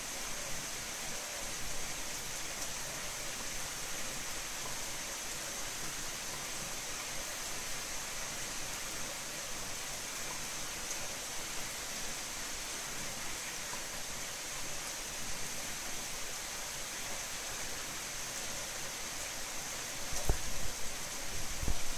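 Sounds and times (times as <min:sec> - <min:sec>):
heavy rain hiss: 0:00.0 - 0:21.9.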